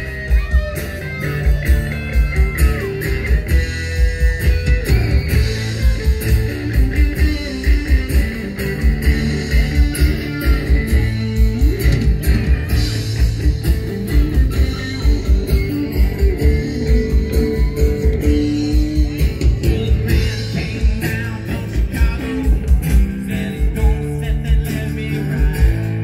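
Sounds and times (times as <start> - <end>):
bass guitar: 0.0 - 26.0
sliding electric guitar lead: 0.0 - 26.0
steady kick drum beat: 0.0 - 26.0
strummed acoustic guitar: 0.0 - 26.0.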